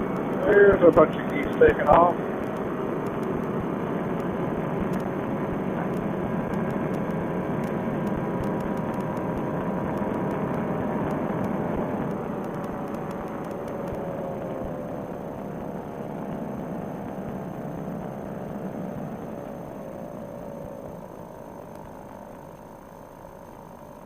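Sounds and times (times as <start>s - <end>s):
paramotor engine and propeller: 0.0s - 24.0s.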